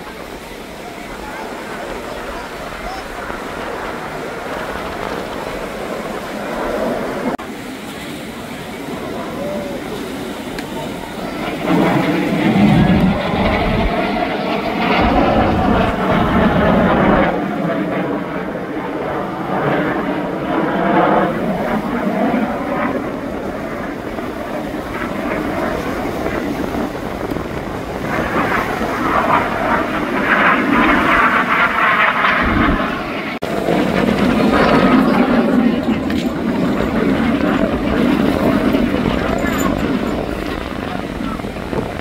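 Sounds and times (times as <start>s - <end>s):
aircraft engines flying past: 0.0s - 42.0s.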